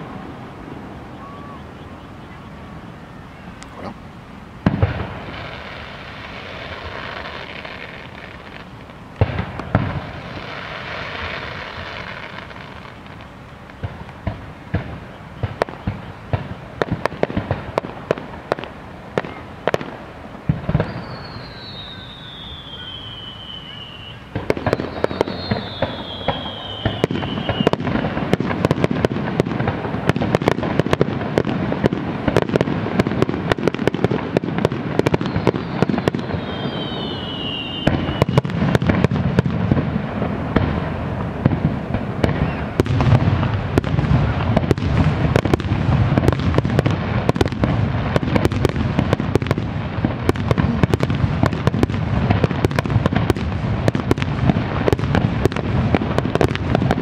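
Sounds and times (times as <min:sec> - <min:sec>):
fireworks falling whistles: 0:00.0 - 0:04.0, 0:04.6 - 0:57.0
fireworks bursting: 0:00.0 - 0:57.0.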